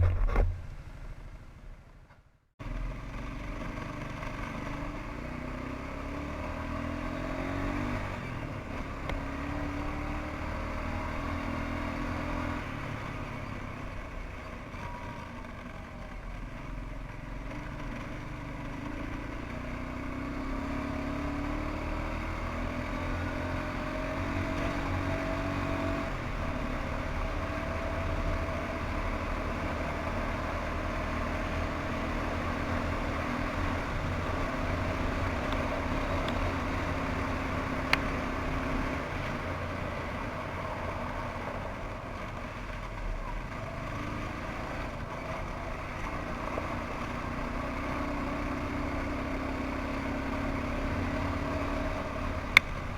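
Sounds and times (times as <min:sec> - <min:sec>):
atv engine revving: 0:02.6 - 0:13.5, 0:17.5 - 0:52.9.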